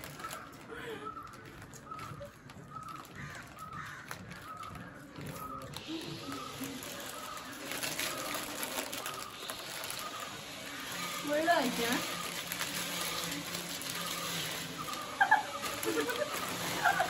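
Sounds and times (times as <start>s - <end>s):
bird calling: 0.0s - 17.0s
plastic chip packets crinkling: 0.0s - 17.0s
potato chips crunching: 0.0s - 17.0s.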